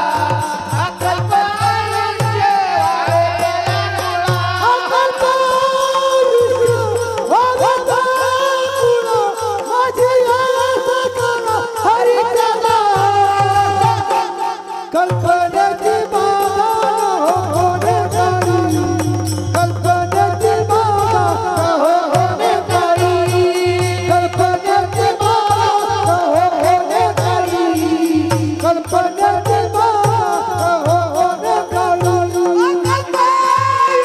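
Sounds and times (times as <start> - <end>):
men chanting devotional song: 0.0 - 34.0.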